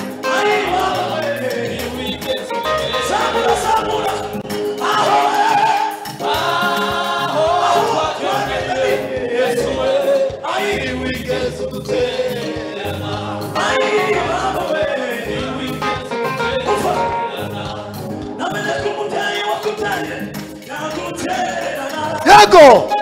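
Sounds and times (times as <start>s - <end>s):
gospel choir singing: 0.0s - 22.3s
instrumental backing with beat: 0.0s - 23.0s.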